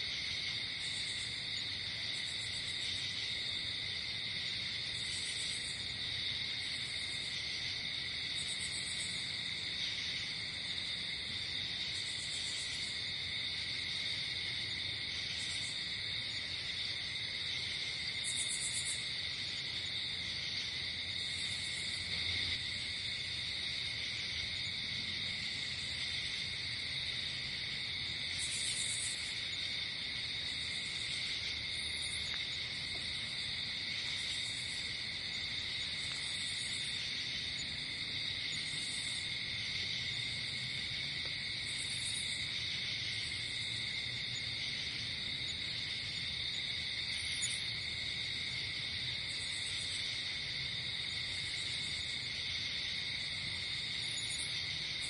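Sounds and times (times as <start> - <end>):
crickets trilling: 0.0 - 55.0
buzzing insect chirp: 0.1 - 55.0.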